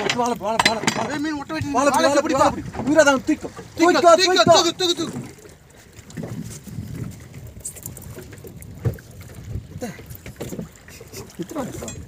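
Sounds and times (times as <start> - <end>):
water sloshing against boat hull: 0.0 - 12.0.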